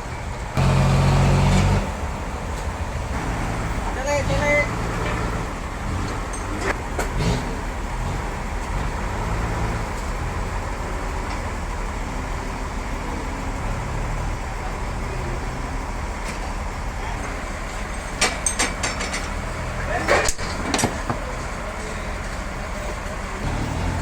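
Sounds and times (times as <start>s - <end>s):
large engine humming: 0.0s - 24.0s.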